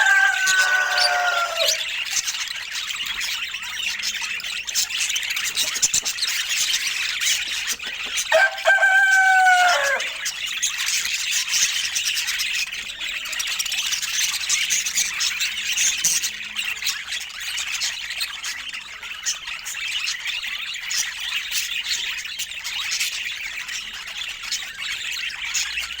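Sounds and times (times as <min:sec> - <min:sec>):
budgerigars chattering: 0:00.0 - 0:26.0
drawn-out budgerigar call: 0:00.0 - 0:26.0.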